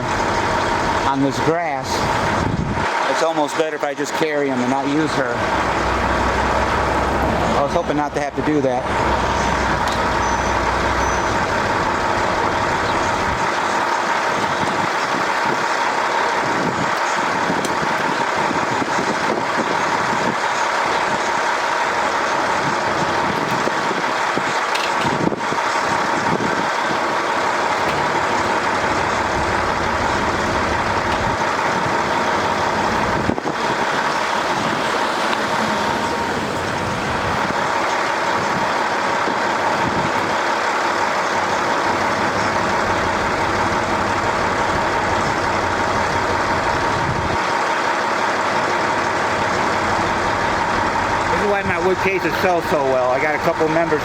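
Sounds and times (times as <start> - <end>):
machine drone with faint whine: 0.0 - 54.0.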